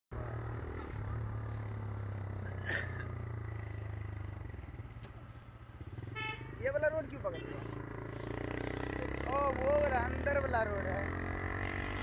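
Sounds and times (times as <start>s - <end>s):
road and wind noise: 0.1s - 12.0s
motorcycle engine running: 0.2s - 12.0s.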